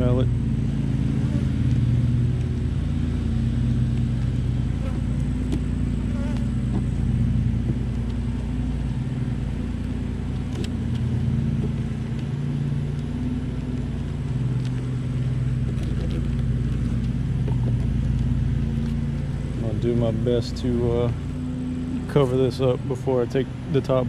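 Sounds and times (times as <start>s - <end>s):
honeybees buzzing: 0.3s - 23.8s.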